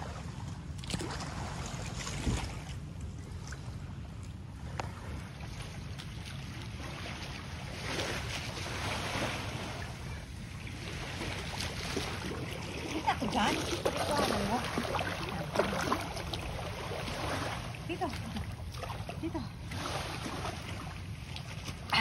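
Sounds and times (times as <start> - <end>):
water lapping against boat hull: 0.0 - 22.0
wind rumbling on microphone: 0.0 - 22.0.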